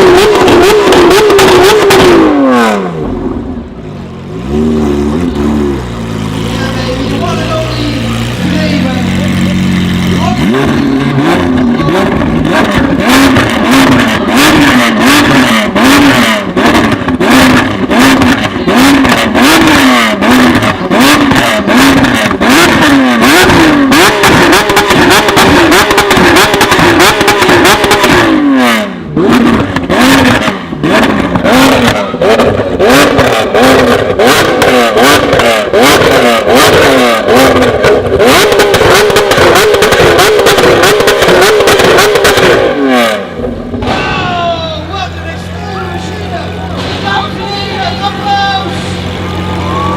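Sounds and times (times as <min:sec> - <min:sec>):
sports car engines revving: 0:00.0 - 0:49.9
exhaust pops crackling: 0:06.1 - 0:28.4, 0:29.3 - 0:48.3.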